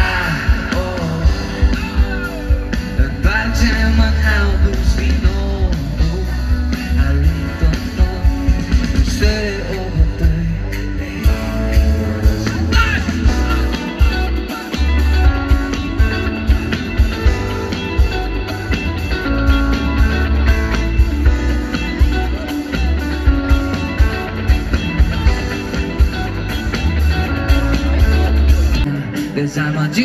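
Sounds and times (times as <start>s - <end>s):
person singing: 0.0s - 25.8s
electric guitar: 0.0s - 30.0s
heavy bass: 0.0s - 30.0s.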